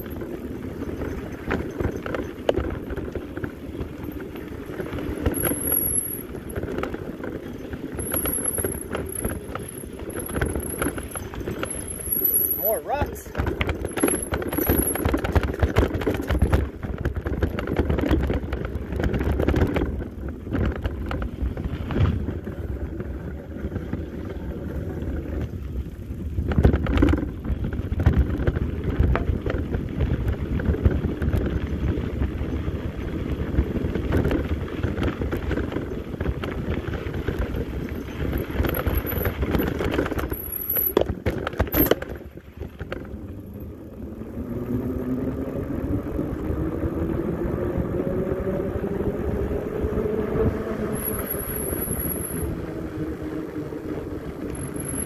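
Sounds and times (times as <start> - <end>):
bike frame and chain rattling: 0.0 - 46.8, 50.9 - 53.2, 53.8 - 55.0
wind on microphone: 0.0 - 55.0.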